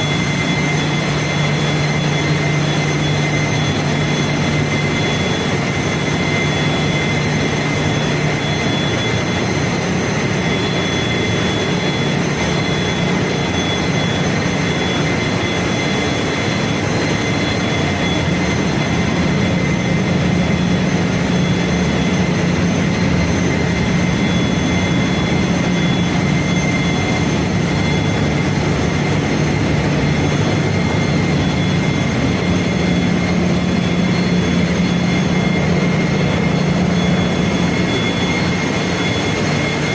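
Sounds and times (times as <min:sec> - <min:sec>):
engine-room machinery drone: 0:00.0 - 0:39.9
high machinery whines: 0:00.0 - 0:39.9.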